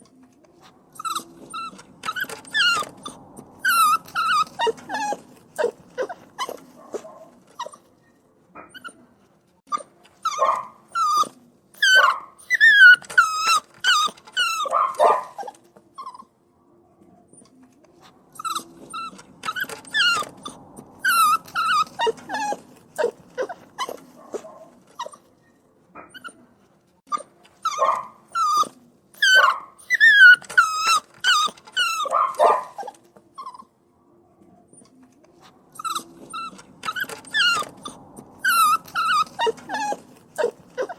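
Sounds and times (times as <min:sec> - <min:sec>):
puppies whining and yelping: 0:00.6 - 0:08.0, 0:08.6 - 0:09.1, 0:09.7 - 0:16.4, 0:18.3 - 0:33.8, 0:34.7 - 0:40.9.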